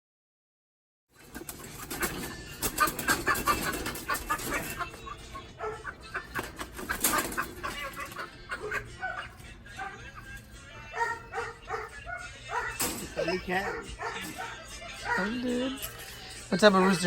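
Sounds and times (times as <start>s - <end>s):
chickens clucking: 1.2s - 17.0s.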